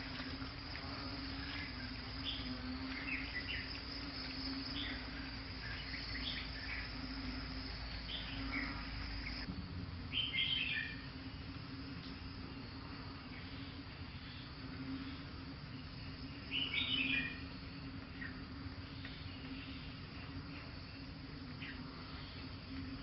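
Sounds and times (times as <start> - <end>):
insect chorus droning: 0.0 - 23.0.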